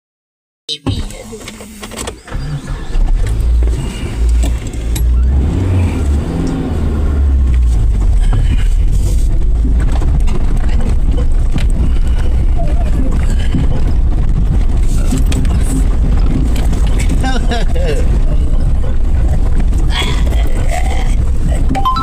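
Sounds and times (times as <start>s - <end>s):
off-road vehicle engine running: 0.9s - 22.0s.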